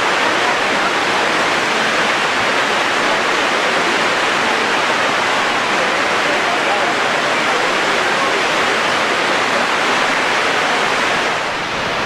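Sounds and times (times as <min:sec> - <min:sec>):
water cascading into a pool: 0:00.0 - 0:12.0.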